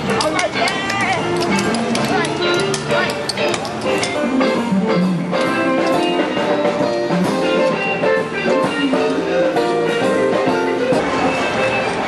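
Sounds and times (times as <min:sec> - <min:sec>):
live band music with drums: 0:00.0 - 0:12.0.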